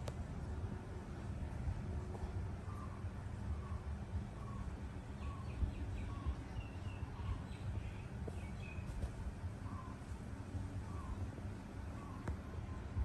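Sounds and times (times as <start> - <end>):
low rumble of background noise: 0.0 - 13.0
faint birds chirping: 0.4 - 13.0.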